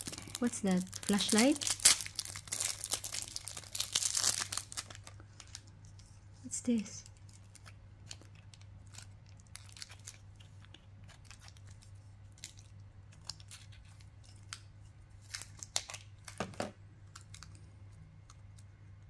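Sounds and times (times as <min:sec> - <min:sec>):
plastic wrap crinkling and clicks: 0:00.0 - 0:06.0, 0:07.1 - 0:18.7
low steady hum: 0:00.0 - 0:19.0.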